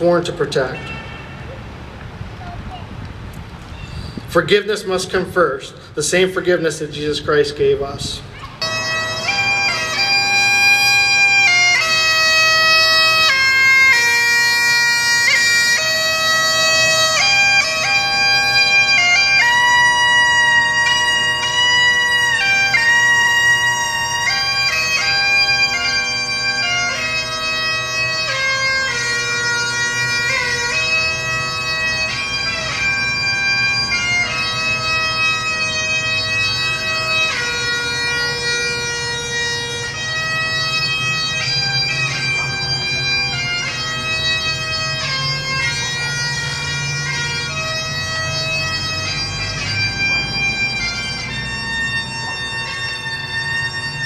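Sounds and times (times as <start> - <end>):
bagpipes playing slow tune: 0.0 - 1.8, 8.6 - 54.0.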